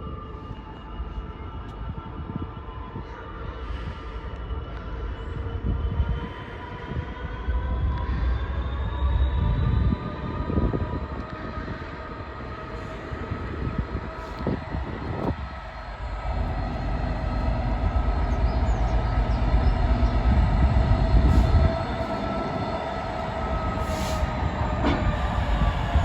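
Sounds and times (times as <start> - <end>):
diesel locomotive engine rumble: 0.0 - 26.0
steady whining tones: 3.4 - 26.0.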